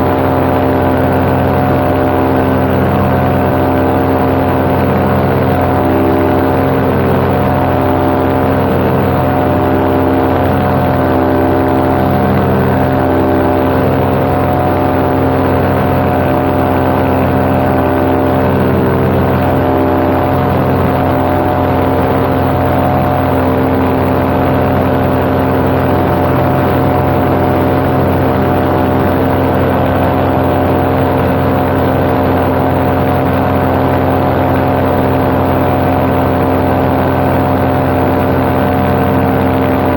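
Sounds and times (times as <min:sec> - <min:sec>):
paramotor engine and propeller drone: 0:00.0 - 0:39.9.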